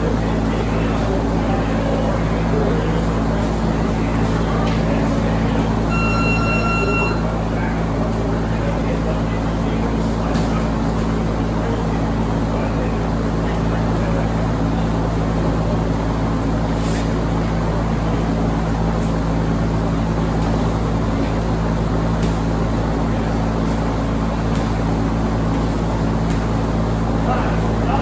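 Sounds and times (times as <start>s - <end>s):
low mechanical drone: 0.0s - 28.0s.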